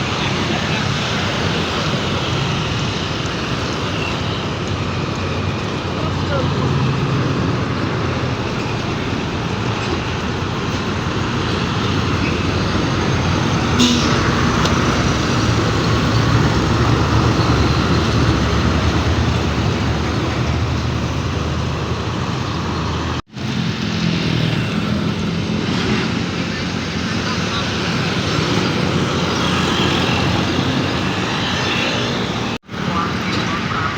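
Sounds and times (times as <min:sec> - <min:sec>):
diesel trucks in road traffic: 0:00.0 - 0:33.9.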